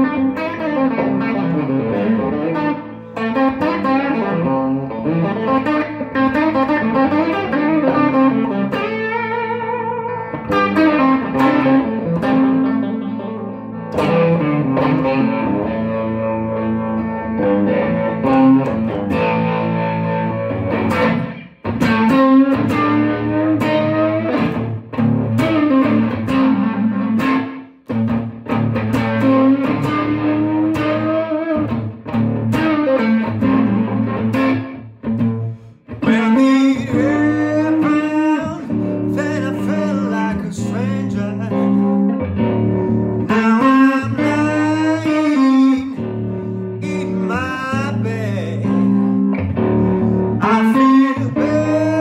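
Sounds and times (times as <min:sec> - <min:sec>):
electric guitar playing blues: 0:00.0 - 0:52.0.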